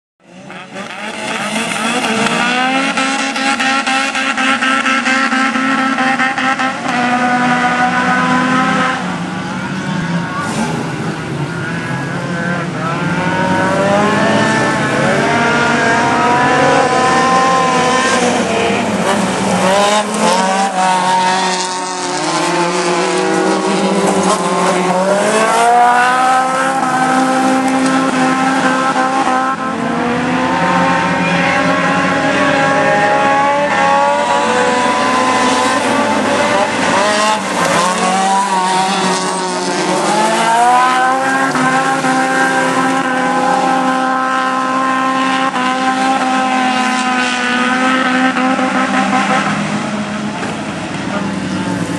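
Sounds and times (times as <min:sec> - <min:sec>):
race car engines revving: 0:00.2 - 0:51.9.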